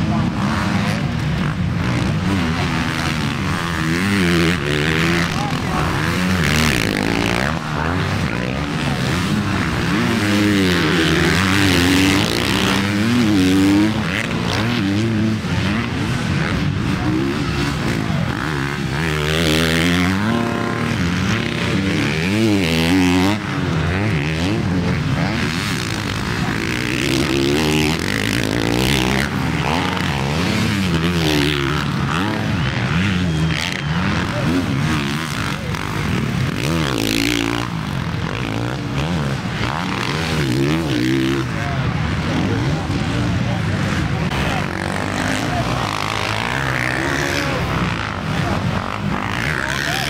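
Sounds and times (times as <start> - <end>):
motocross engines revving: 0.0 - 50.0.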